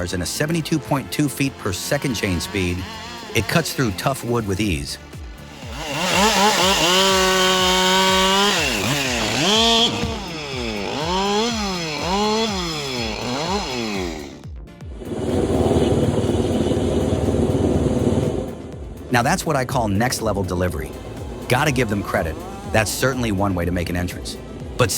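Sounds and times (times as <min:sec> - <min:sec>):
chainsaw revving: 0:00.0 - 0:19.3, 0:20.0 - 0:24.9.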